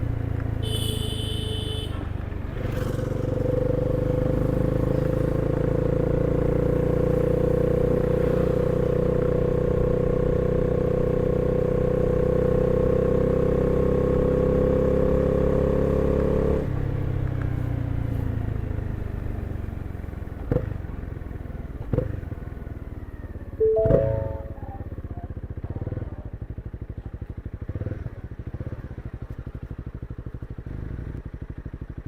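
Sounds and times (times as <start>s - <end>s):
motorcycle engine under throttle: 0.0s - 23.0s, 25.4s - 32.0s.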